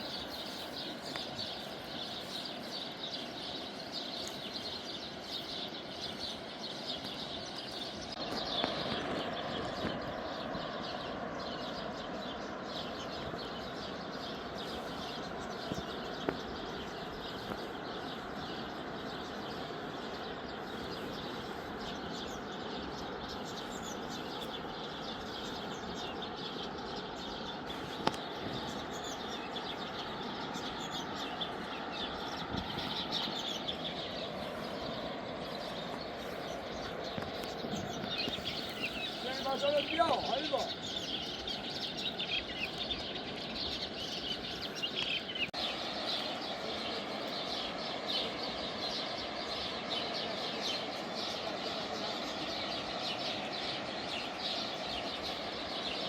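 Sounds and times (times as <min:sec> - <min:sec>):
small birds chirping: 0:00.0 - 0:56.0
steady rushing noise: 0:00.0 - 0:56.0.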